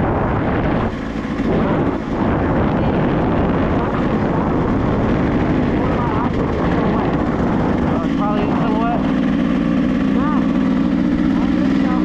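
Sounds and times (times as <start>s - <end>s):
dirt bike engine under throttle: 0.0s - 12.0s
wind on microphone: 0.0s - 12.0s.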